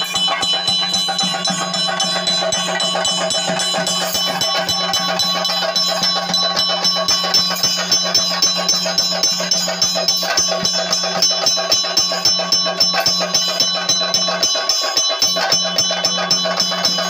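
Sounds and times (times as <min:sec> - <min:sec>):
fast steady drumbeat: 0:00.0 - 0:17.0
metallic cymbal ringing: 0:00.0 - 0:17.0.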